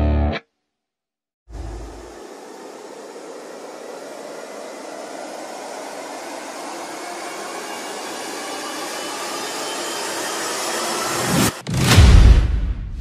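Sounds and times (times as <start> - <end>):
whooshing white-noise riser: 1.5 - 12.0.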